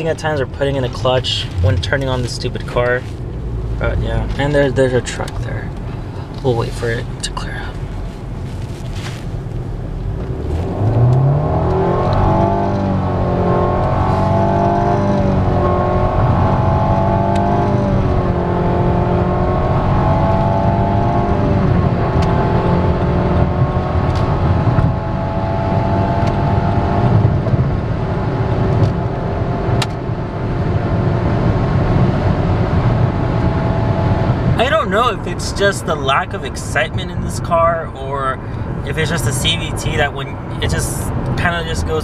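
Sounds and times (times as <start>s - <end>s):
car engine accelerating: 0.0s - 42.0s
road and wind noise: 0.0s - 42.0s.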